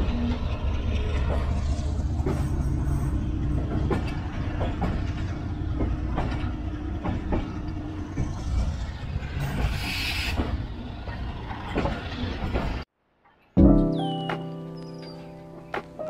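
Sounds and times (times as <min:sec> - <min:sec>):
train rumbling: 0:00.0 - 0:12.9
wheels clacking over rail joints: 0:00.0 - 0:12.9.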